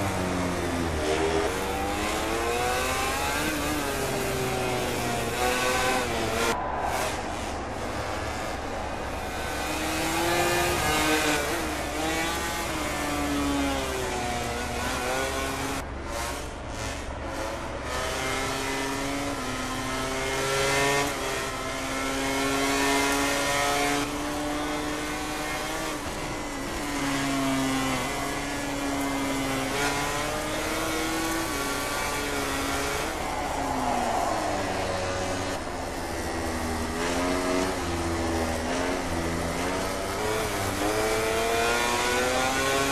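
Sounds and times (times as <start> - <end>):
racing motorcycle engines revving: 0.0 - 42.9.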